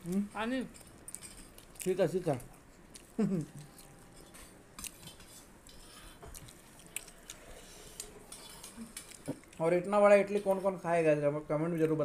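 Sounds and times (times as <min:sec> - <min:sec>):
faint chewing: 0:00.0 - 0:10.8.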